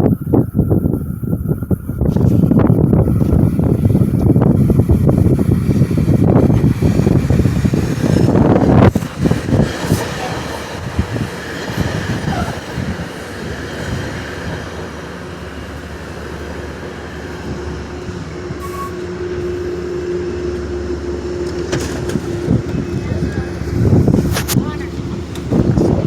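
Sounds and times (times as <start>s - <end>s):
locomotive rumbling on rails: 0.0s - 26.0s.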